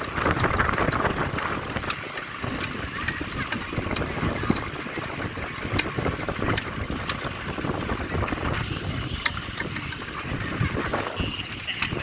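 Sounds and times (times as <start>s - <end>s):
sharp clicks and knocks: 0.0s - 12.0s
stationary engines rumbling: 0.0s - 12.0s.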